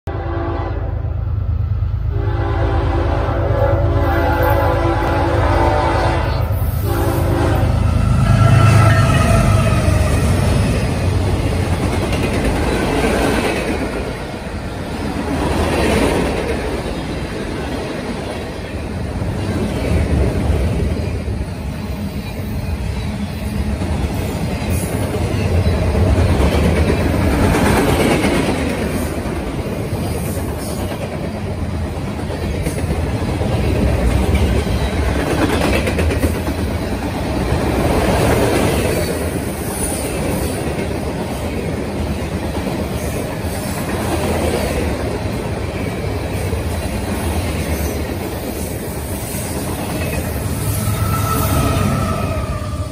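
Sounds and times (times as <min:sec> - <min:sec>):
freight train wheels rumbling: 0:00.1 - 0:52.9.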